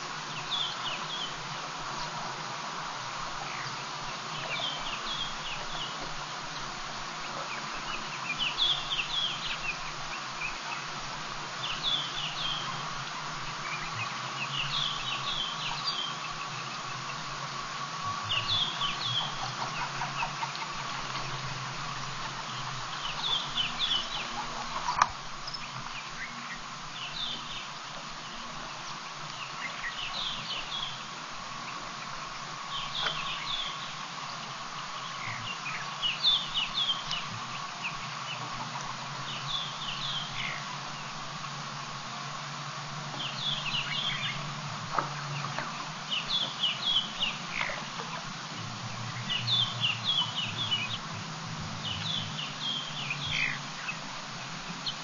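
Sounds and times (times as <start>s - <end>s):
birds chirping: 0.0s - 55.0s
steady hum: 0.0s - 55.0s.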